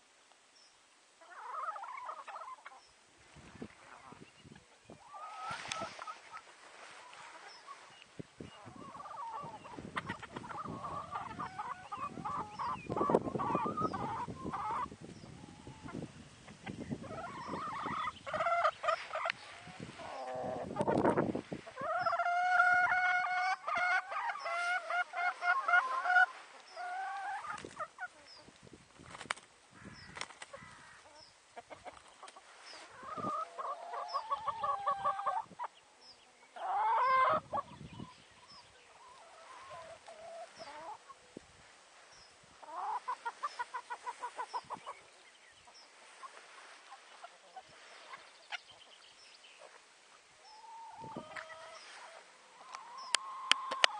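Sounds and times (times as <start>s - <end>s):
hens clucking: 1.2s - 2.9s, 3.5s - 28.7s, 29.3s - 41.4s, 42.6s - 49.0s, 49.6s - 53.9s.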